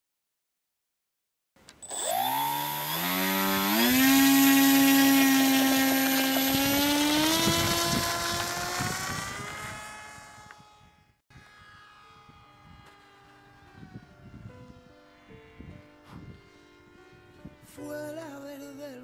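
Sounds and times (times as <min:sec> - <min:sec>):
model plane motor whine: 0:01.7 - 0:19.0.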